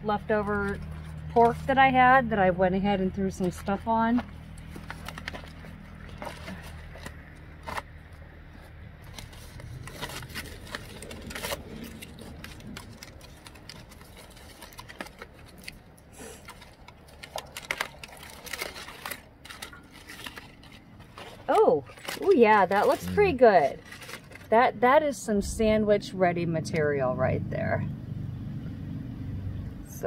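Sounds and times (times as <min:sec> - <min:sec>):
aluminium foil crinkling: 0:00.1 - 0:02.2, 0:03.2 - 0:25.3.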